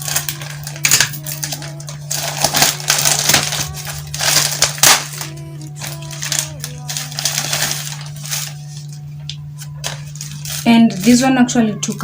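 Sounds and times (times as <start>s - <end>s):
packaging crinkling: 0.0s - 12.0s
steady low hum: 0.0s - 12.0s.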